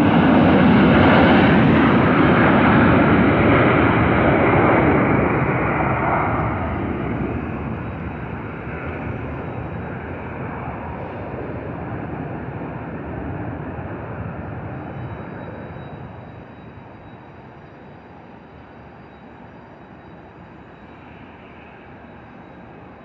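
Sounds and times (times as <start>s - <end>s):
aircraft engine rushing: 0.0s - 23.0s.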